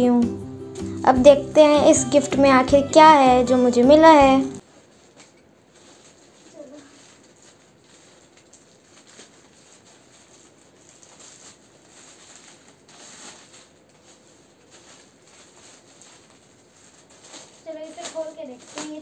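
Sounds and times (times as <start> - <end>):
gift wrapping rustling: 0.7 - 19.0.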